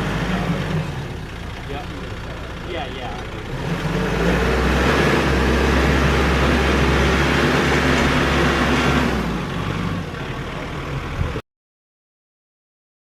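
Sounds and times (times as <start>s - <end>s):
motor vehicle engine running: 0.0s - 11.4s.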